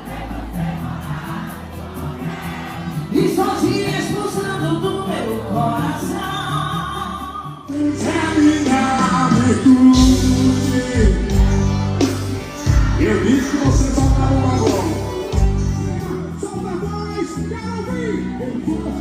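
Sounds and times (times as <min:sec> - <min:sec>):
band music with singing: 0:00.0 - 0:19.0.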